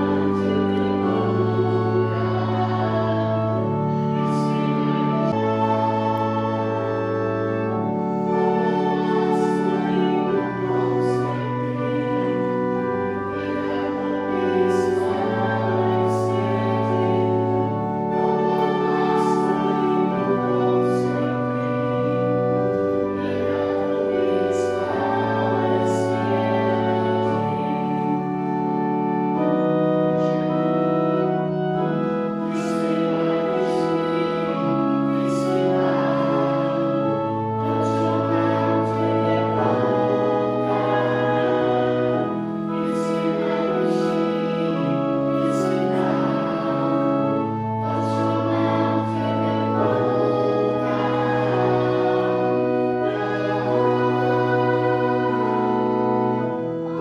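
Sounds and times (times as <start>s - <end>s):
children singing: 0.0s - 28.2s, 31.8s - 57.0s
organ chords: 0.0s - 57.0s.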